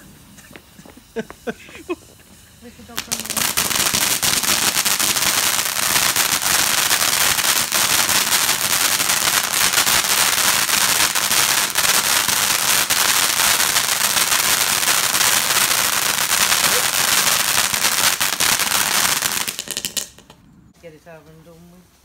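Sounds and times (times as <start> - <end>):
fireworks crackling: 0.0 - 20.4.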